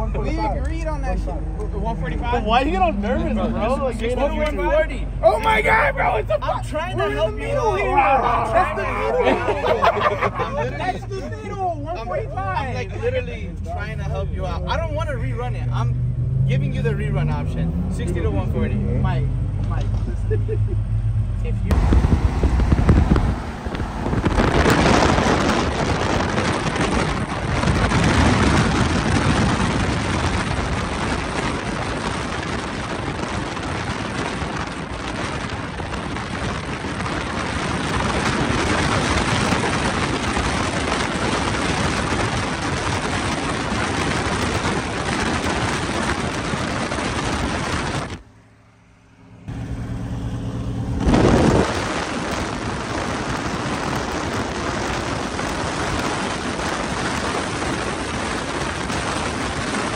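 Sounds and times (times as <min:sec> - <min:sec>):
car engines racing: 0:00.0 - 0:59.9
wind and road noise: 0:00.0 - 0:59.9.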